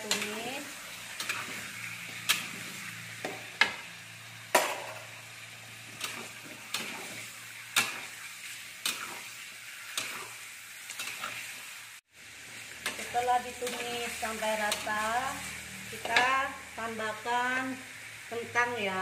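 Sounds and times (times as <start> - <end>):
chicken sizzling in a wok: 0.0 - 19.0.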